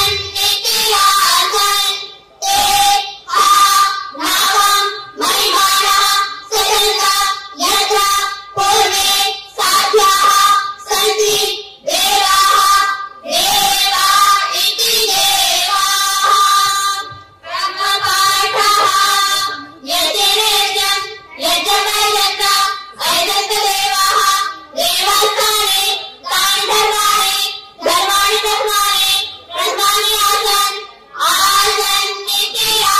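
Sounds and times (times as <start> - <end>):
girls singing in unison: 0.0 - 32.9.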